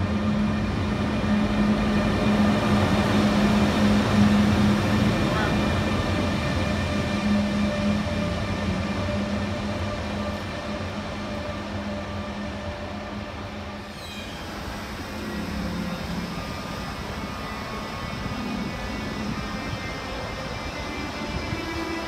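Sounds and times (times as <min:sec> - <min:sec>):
electric train running hum: 0:00.0 - 0:22.0
train running noise: 0:00.0 - 0:22.0.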